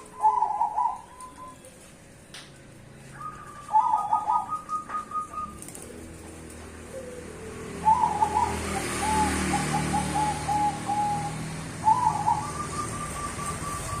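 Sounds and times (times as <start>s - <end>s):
dove cooing: 0.0s - 1.6s, 3.2s - 6.2s, 6.8s - 14.0s.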